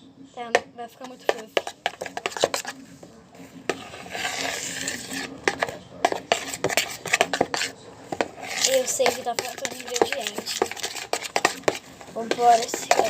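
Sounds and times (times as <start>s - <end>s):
utensil scraping mixing bowl: 0.5s - 13.0s.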